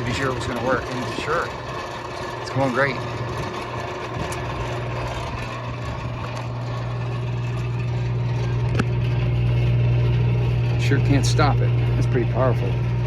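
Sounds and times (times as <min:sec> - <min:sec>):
electric motor humming: 0:00.0 - 0:13.0.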